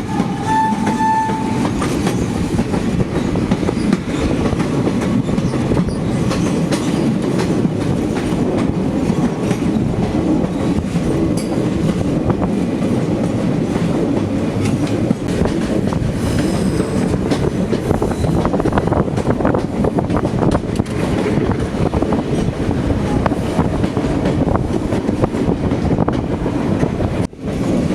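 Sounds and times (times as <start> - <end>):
wheels clacking over rail joints: 0.0 - 22.6
train coaches rumbling: 0.0 - 27.9.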